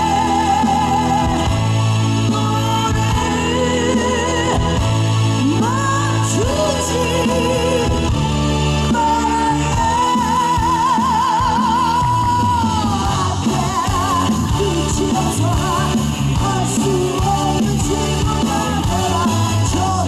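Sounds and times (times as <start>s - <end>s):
live pop-rock band: 0.0s - 20.0s.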